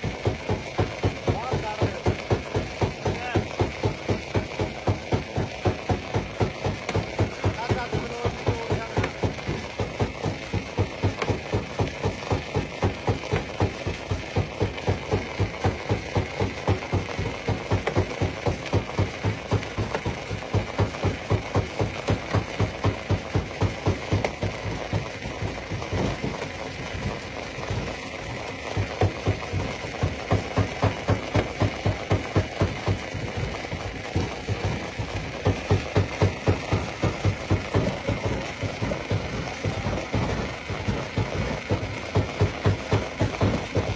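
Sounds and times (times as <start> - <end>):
stone crusher pounding rhythmically: 0.0 - 43.9.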